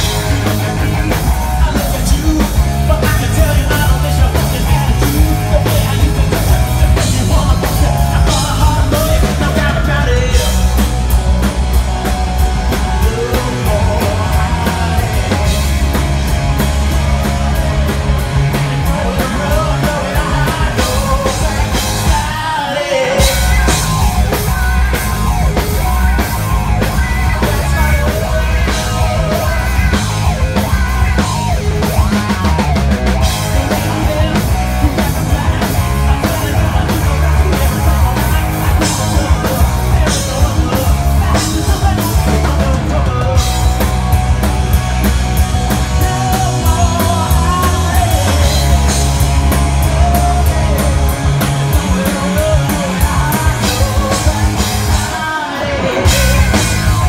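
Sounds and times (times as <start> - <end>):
person singing: 0.0 - 11.2, 12.1 - 44.1, 45.6 - 57.0
bass guitar: 0.0 - 57.0
drum kit: 0.0 - 57.0
electric guitar: 0.0 - 57.0.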